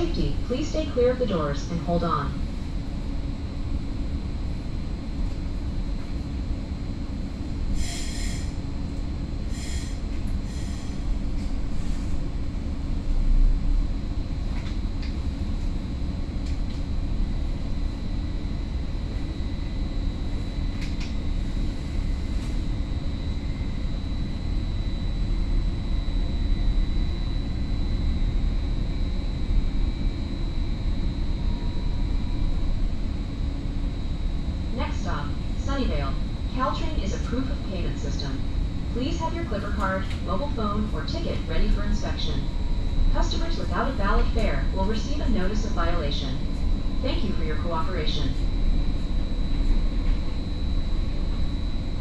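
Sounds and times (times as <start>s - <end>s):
train rumble with rising whine: 0.0s - 52.0s.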